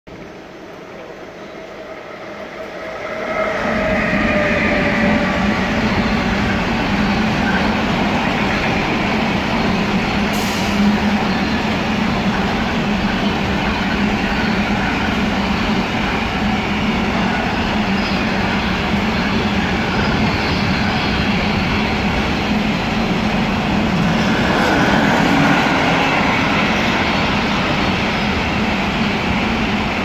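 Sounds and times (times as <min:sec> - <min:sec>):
freight train rolling rumble: 0:00.1 - 0:30.0
locomotive whine: 0:00.2 - 0:30.0.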